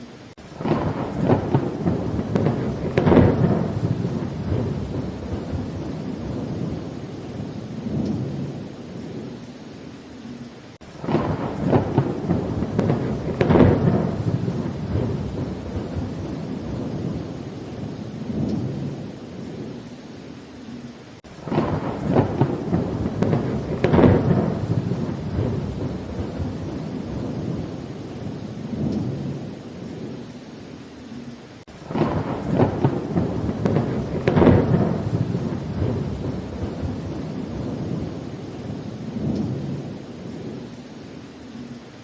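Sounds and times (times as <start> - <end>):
steady rain: 0.0 - 42.0
thunder rumbling: 0.4 - 9.4, 10.8 - 20.0, 20.7 - 30.8, 31.6 - 41.7.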